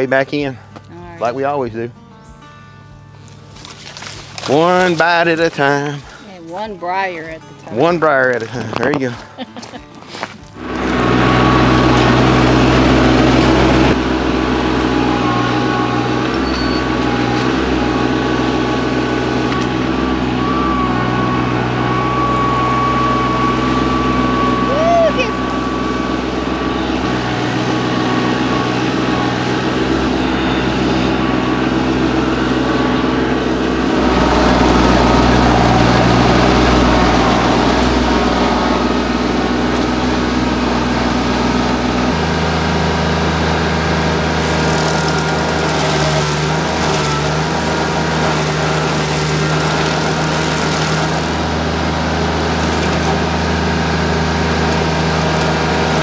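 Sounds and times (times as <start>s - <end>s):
stump grinder cutter grinding: 0.0s - 1.6s, 3.2s - 56.0s
tractor diesel engine running: 0.0s - 56.0s.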